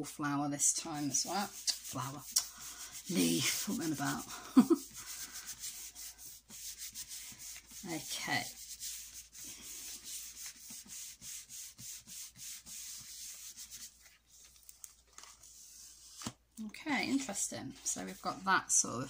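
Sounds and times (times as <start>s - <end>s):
hands rubbing over card: 0.9s - 16.4s.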